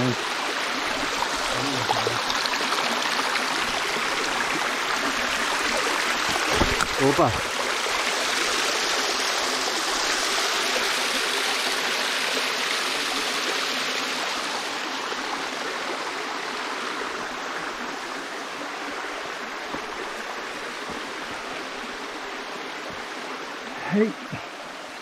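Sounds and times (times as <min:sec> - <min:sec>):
stream splashing over rocks: 0:00.0 - 0:25.0.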